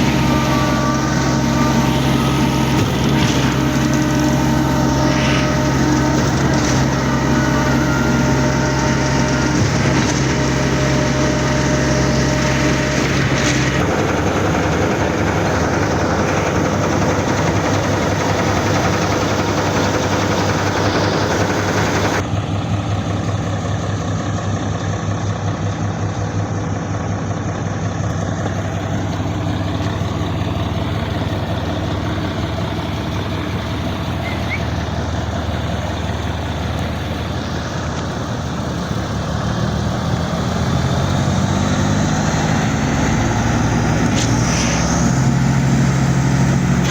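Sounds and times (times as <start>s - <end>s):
diesel engine drone: 0.0s - 46.9s.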